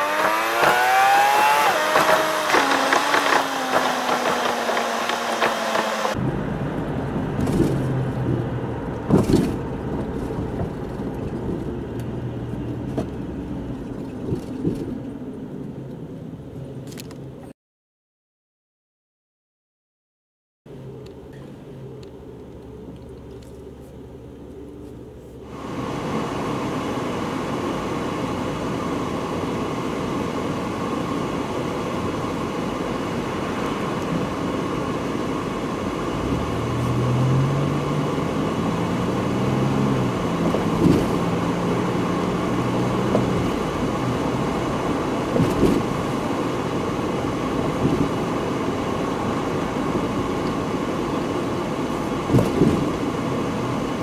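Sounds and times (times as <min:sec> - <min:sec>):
car engine hum: 0:00.0 - 0:17.4, 0:20.7 - 0:54.0
road noise: 0:00.0 - 0:17.5, 0:20.7 - 0:54.0.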